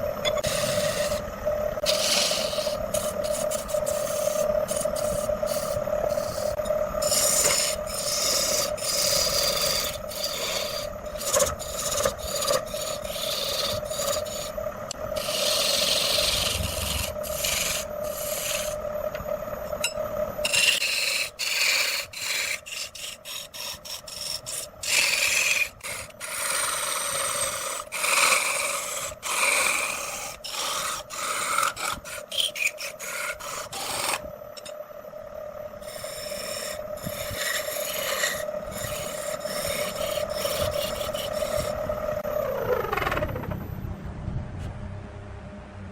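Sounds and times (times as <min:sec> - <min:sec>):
wood lathe humming: 0:00.0 - 0:34.7, 0:35.8 - 0:43.6
turning tool scraping wood: 0:00.3 - 0:01.2, 0:01.8 - 0:14.6, 0:15.2 - 0:18.8, 0:20.4 - 0:34.7, 0:35.8 - 0:41.9.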